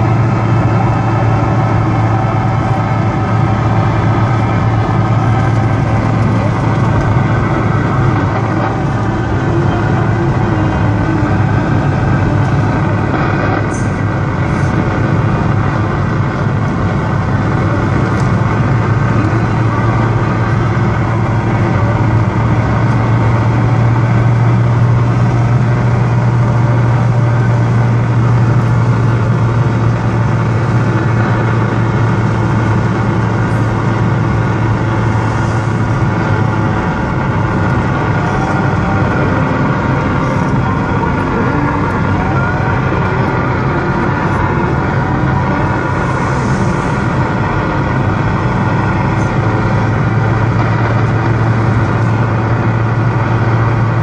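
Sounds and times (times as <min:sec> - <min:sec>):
car driving drone: 0:00.0 - 0:54.0
radio static hiss: 0:00.2 - 0:22.2, 0:30.2 - 0:52.4.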